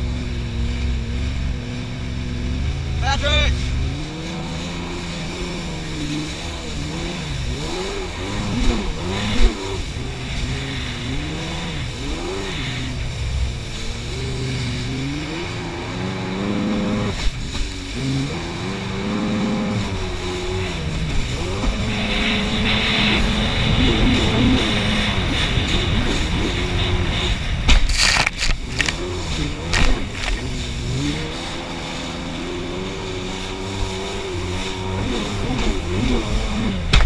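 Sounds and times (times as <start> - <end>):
water spray and wind rushing: 0.0 - 37.0
wave runner engine revving: 0.0 - 37.0.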